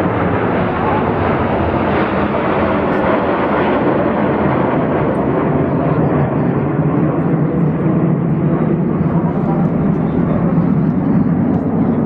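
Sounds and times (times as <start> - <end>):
jets flying past: 0.0 - 12.0.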